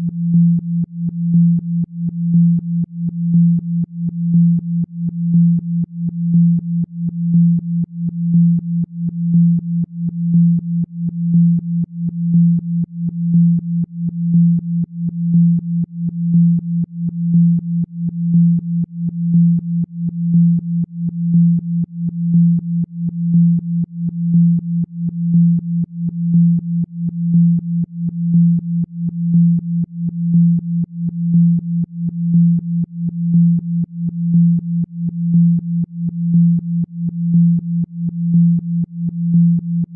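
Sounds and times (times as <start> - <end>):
low pulsing electronic tone: 0.0 - 39.9.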